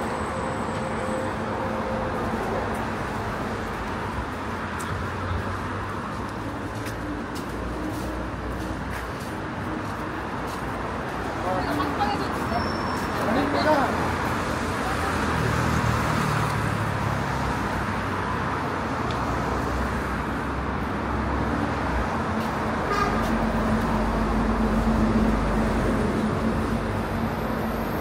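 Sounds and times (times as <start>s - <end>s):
passing vehicle engines: 0.0s - 28.0s
road traffic noise: 0.0s - 28.0s.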